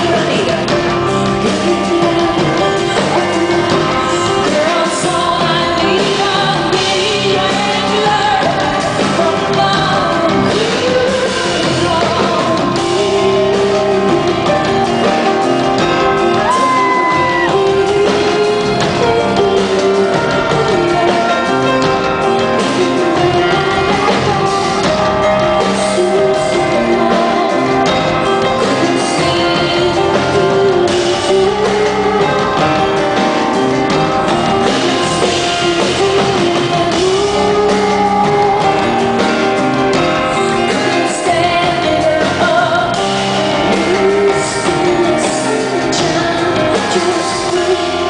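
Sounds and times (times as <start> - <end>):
live rock band with guitar: 0.0 - 48.0
person singing: 0.0 - 48.0.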